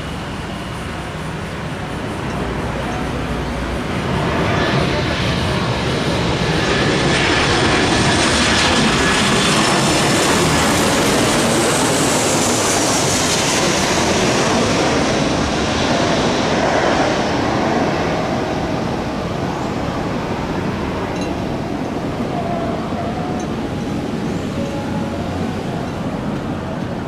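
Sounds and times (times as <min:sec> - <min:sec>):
airplane engines roaring: 0:00.0 - 0:27.0.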